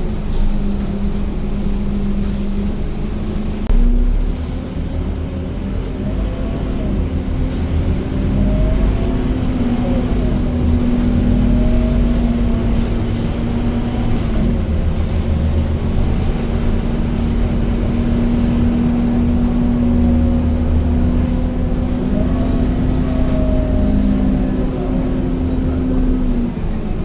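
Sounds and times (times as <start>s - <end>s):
bus engine droning: 0.0s - 27.0s.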